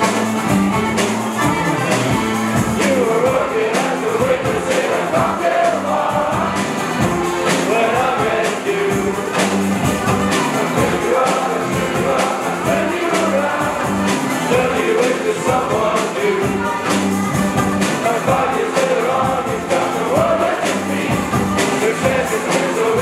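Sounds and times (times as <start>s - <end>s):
acoustic guitars: 0.0s - 23.0s
group singing: 0.0s - 23.0s.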